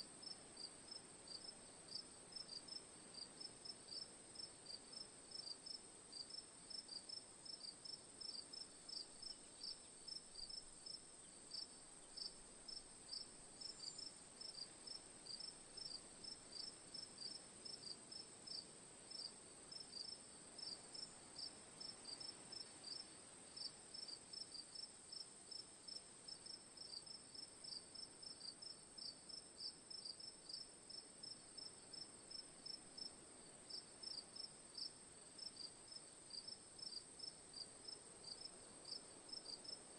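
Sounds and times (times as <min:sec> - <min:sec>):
crickets chirping: 0:00.2 - 0:39.9.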